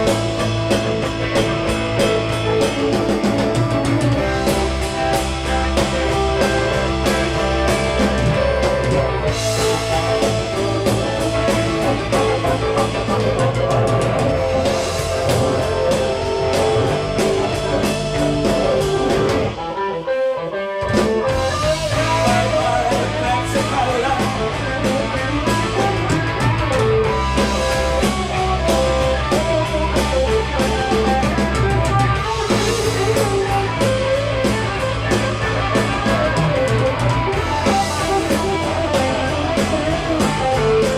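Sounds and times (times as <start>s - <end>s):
rock band guitar and drums: 0.0s - 40.9s.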